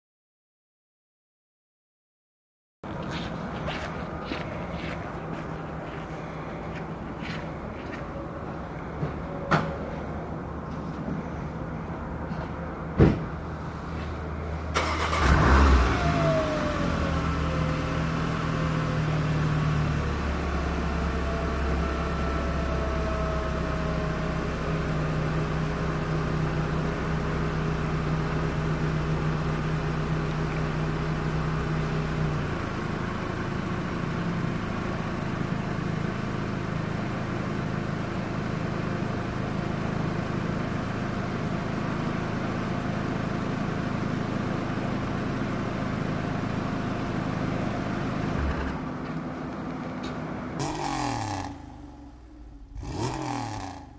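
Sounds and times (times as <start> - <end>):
car engine starting and idling: 4.8 - 53.9.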